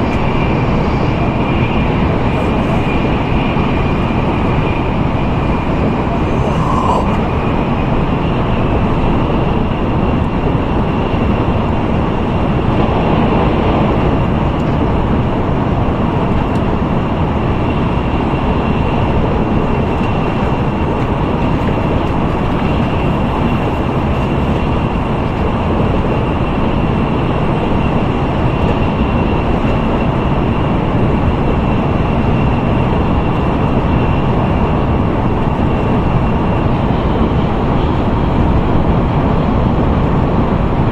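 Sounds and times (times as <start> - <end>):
faint high whine: 0.0 - 37.2
train rumble and rush at speed: 0.0 - 40.9.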